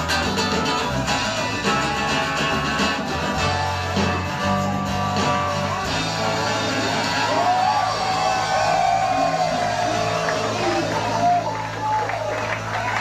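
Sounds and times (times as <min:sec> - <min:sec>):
electric guitar: 0:00.0 - 0:13.0
held bass notes: 0:00.0 - 0:13.0
live band playing: 0:00.0 - 0:13.0.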